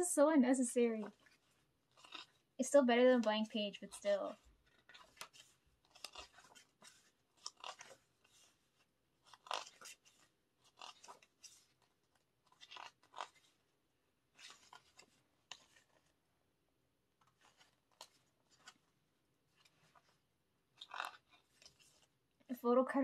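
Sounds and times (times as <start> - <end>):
faint paper rustling: 0.9 - 16.3, 17.2 - 22.6.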